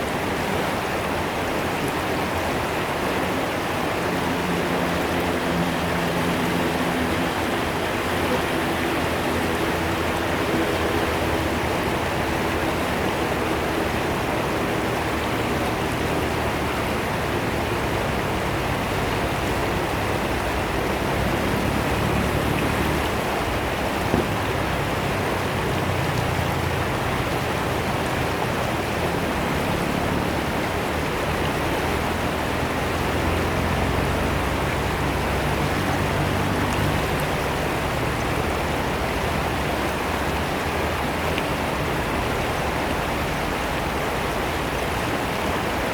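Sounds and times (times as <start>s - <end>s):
river water rushing over weir: 0.0s - 45.9s.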